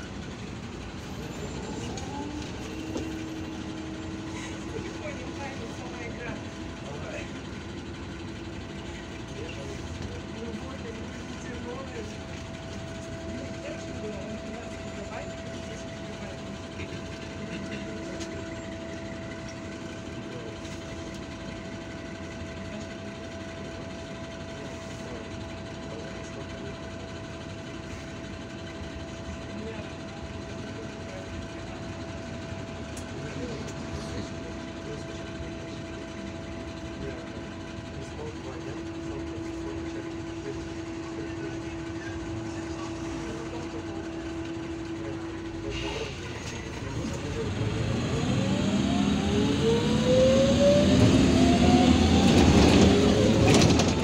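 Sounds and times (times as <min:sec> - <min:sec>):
bus engine rumble: 0:00.0 - 0:54.0
steady whine: 0:00.0 - 0:54.0.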